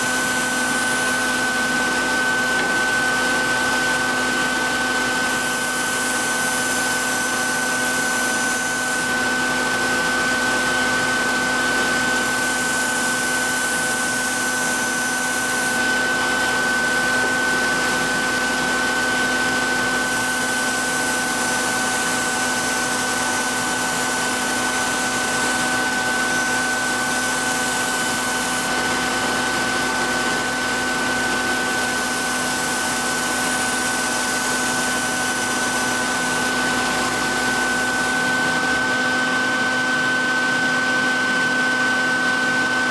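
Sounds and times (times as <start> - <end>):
sharpening machine humming and whining: 0.0 - 42.9.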